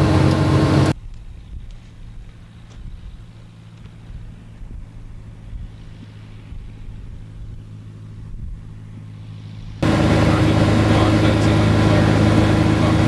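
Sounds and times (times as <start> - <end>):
distant propeller plane engine drone: 0.0 - 13.0.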